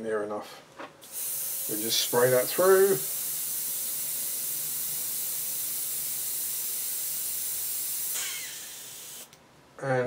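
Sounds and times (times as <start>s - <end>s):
airbrush hissing: 1.0s - 9.4s.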